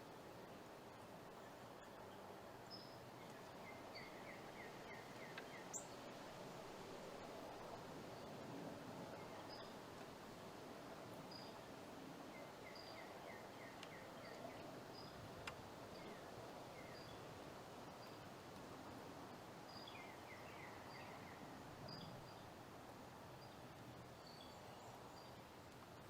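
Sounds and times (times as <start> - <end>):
steady hiss: 0.0 - 26.0
songbird chirps: 0.9 - 8.4, 9.1 - 10.1, 11.2 - 18.3, 19.3 - 22.6, 23.3 - 26.0.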